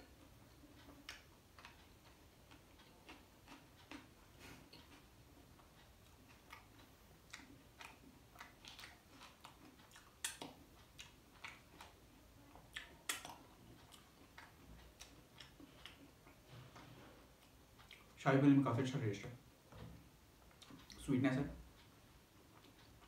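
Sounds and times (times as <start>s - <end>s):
chewing flaky bread: 0.0s - 18.2s, 20.3s - 21.1s, 21.7s - 23.0s.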